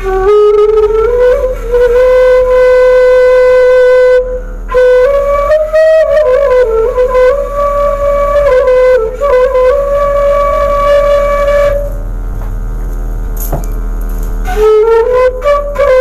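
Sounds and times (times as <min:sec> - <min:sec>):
bamboo flute playing: 0:00.0 - 0:12.7, 0:14.4 - 0:16.0.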